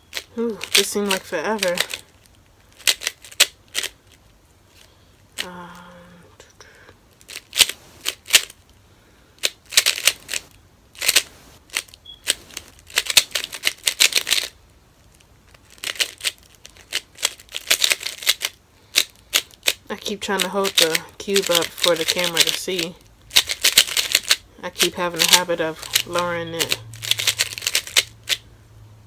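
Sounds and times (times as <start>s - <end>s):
puzzle cube clicking: 0.1s - 6.0s, 7.1s - 8.7s, 9.4s - 28.4s.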